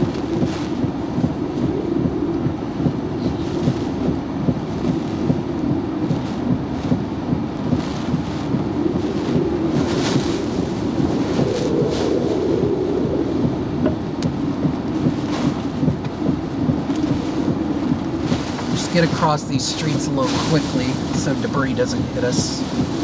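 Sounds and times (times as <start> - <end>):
wind and rain pounding vehicle: 0.0 - 23.0.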